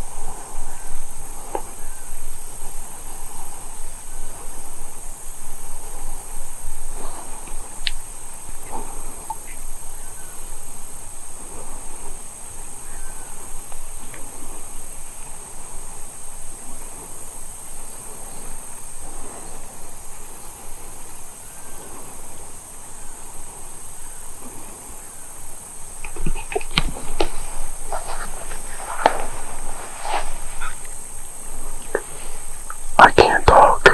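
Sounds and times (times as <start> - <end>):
faint chirps: 0.0 - 33.9
high-pitched insect chorus: 0.0 - 33.9.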